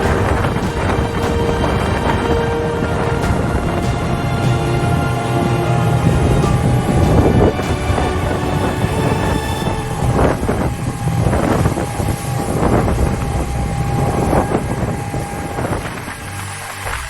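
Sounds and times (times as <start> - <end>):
boat engine running: 0.0 - 17.0
water washing: 0.0 - 17.0
wind buffeting microphone: 0.0 - 17.0.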